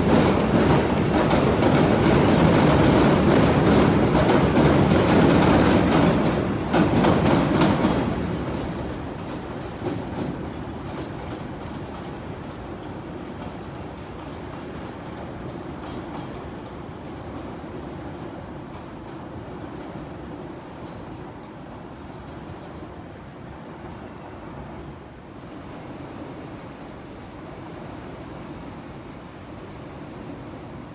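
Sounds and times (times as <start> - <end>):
train rumble: 0.0 - 30.9.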